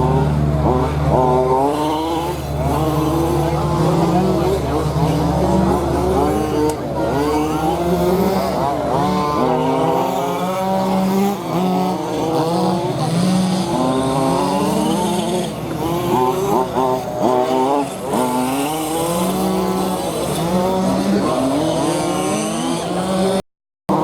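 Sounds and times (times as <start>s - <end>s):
rc car motors revving: 0.0s - 24.0s.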